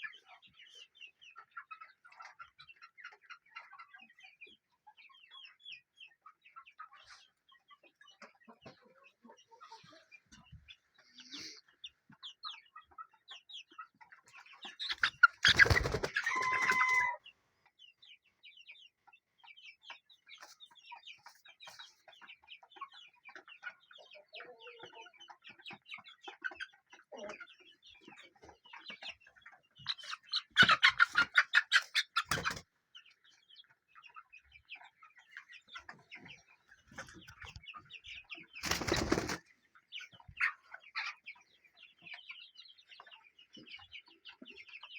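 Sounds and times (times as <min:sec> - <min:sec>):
chickens clucking and chirping: 0:00.0 - 0:44.9.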